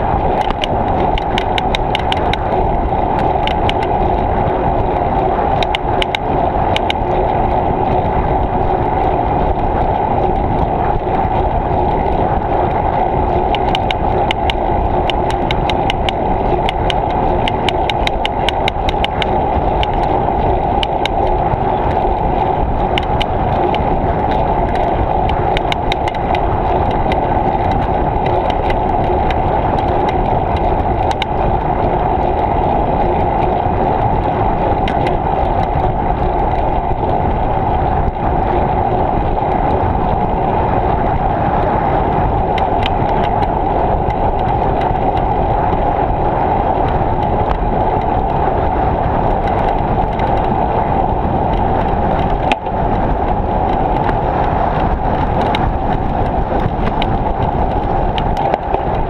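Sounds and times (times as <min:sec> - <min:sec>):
rushing noise of bicycle ride: 0:00.0 - 0:59.0
small clicks and rattles: 0:00.0 - 0:59.0.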